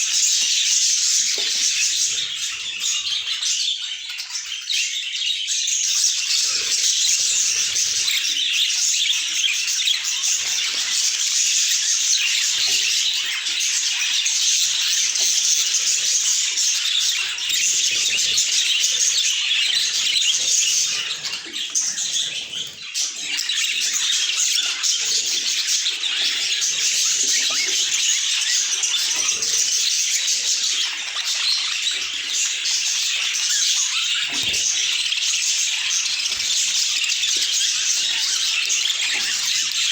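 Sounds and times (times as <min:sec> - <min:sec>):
budgies chattering and warbling: 0:00.0 - 0:39.9.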